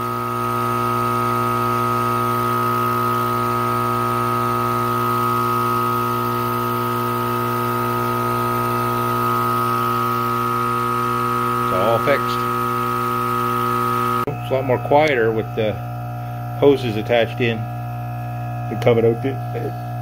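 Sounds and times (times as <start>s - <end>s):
air pump buzzing hum: 0.0s - 20.0s.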